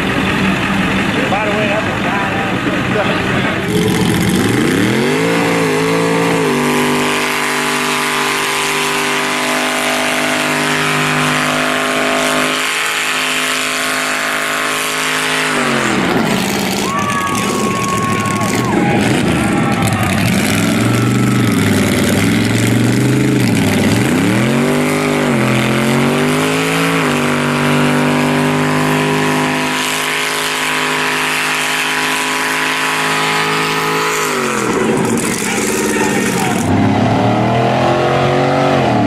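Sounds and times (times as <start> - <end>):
truck engine revving: 0.0 - 39.0.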